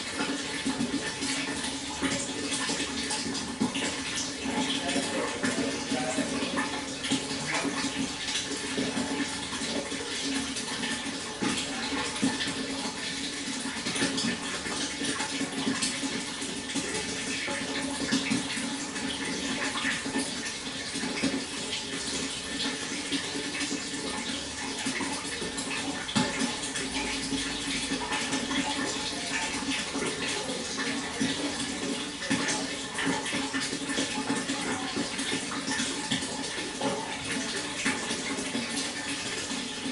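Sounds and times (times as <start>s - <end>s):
water flowing and splashing: 0.0s - 39.9s.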